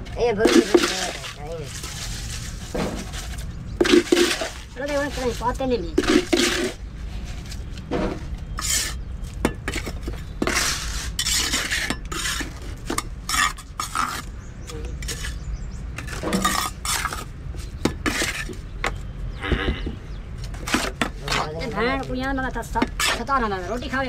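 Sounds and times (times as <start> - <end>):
trowel scraping wet concrete: 0.2 - 7.7, 8.5 - 9.0, 9.6 - 14.3, 15.0 - 18.6, 20.5 - 22.1, 22.7 - 24.0.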